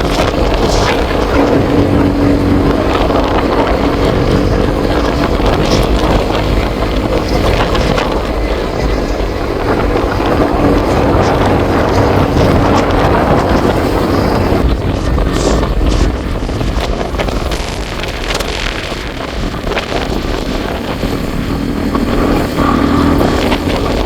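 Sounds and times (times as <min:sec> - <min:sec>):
vehicle engine running: 0:00.0 - 0:24.0
wind buffeting microphone: 0:00.0 - 0:24.0.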